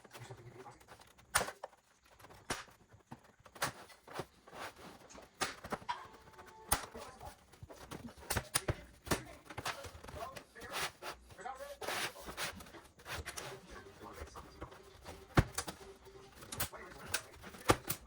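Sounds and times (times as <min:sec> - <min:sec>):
hard objects clicking and knocking: 0:00.0 - 0:18.0.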